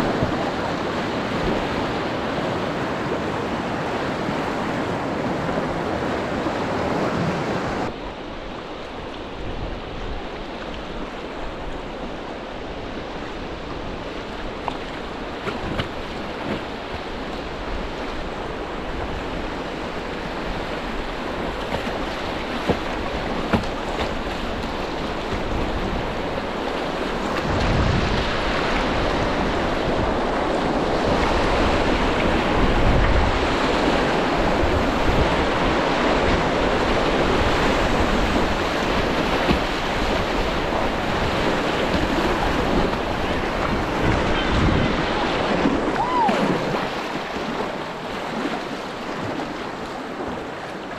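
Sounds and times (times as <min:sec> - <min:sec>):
paddle strokes in water: 0:00.0 - 0:50.9
river rapid rushing and splashing: 0:00.0 - 0:50.9
wind gusts on microphone: 0:00.0 - 0:50.9.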